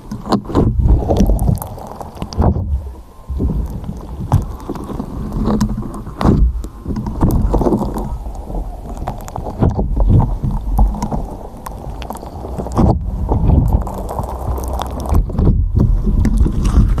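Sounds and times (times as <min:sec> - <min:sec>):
heavy low rumble: 0:00.0 - 0:17.0
wet slime squishing and popping: 0:00.7 - 0:17.0.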